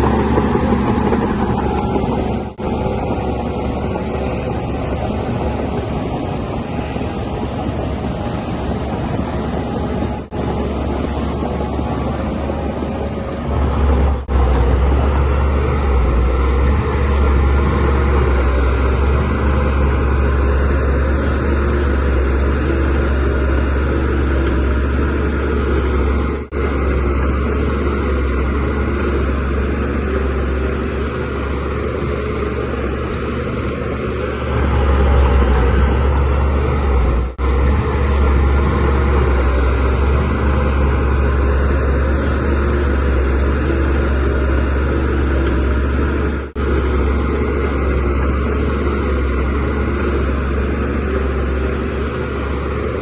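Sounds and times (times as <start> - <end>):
bulldozer diesel engine rumbling: 0.0 - 53.0.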